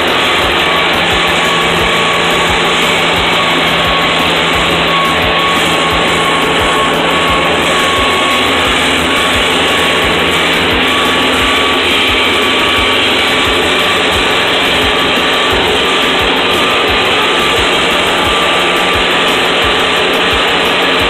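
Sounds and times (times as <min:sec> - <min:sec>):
thin steady whine: 0:00.0 - 0:21.0
tractor diesel engine running: 0:00.0 - 0:21.0.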